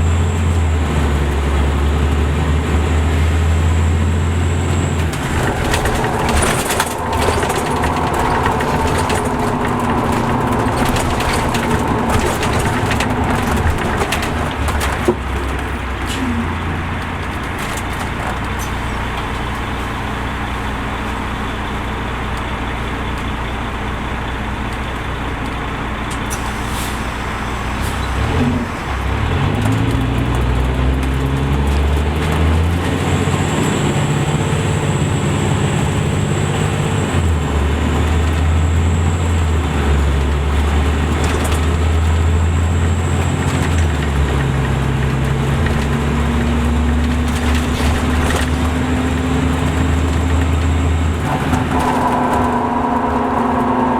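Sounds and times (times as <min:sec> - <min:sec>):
coach diesel engine: 0:00.0 - 0:53.9.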